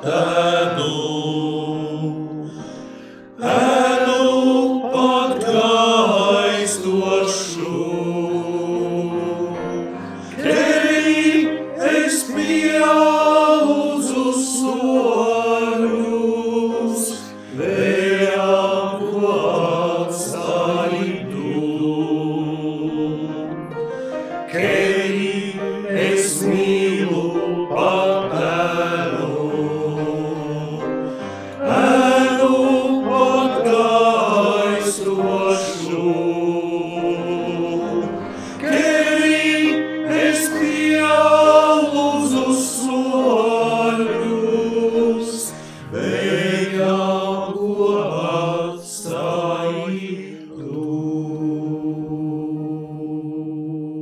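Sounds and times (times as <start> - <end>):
male choir singing in harmony: 0.0 - 54.0.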